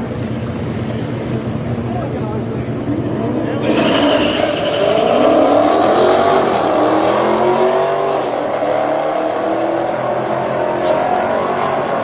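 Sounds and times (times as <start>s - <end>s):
race car engine revving: 0.9s - 12.0s.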